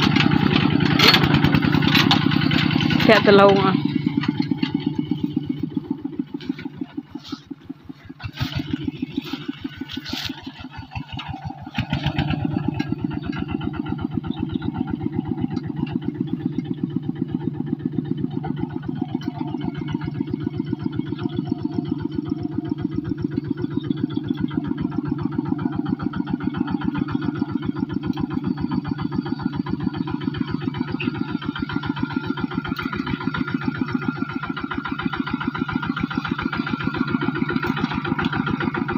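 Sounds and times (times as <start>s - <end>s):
diesel tractor engine chugging: 0.0s - 38.9s.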